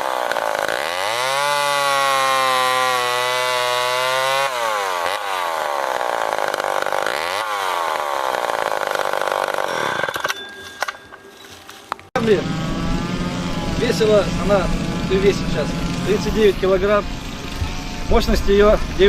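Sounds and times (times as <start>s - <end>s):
chainsaw engine running: 0.0s - 10.3s, 12.2s - 19.0s.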